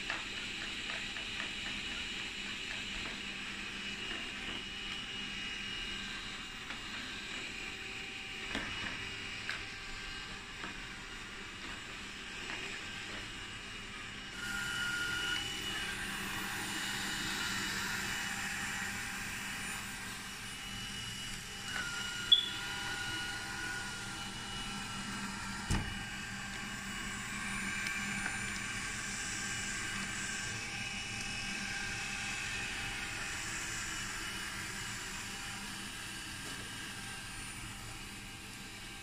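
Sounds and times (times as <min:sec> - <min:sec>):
robot vacuum whirring: 0:06.0 - 0:39.0.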